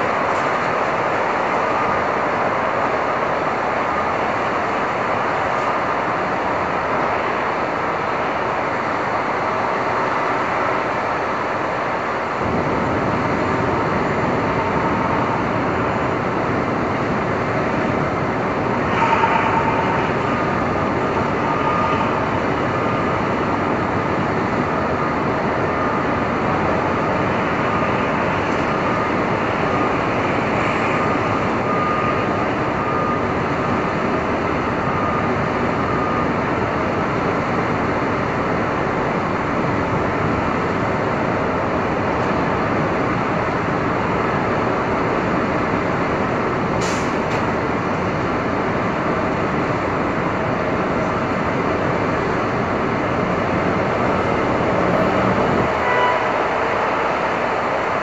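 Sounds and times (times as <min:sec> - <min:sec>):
traffic noise: 0:00.0 - 0:58.0.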